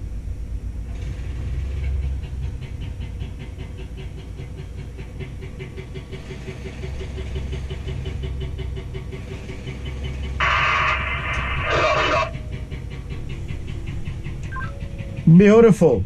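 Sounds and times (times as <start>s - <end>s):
crane machinery hum and whine: 0.0s - 16.0s
fast even ticking: 2.3s - 16.0s.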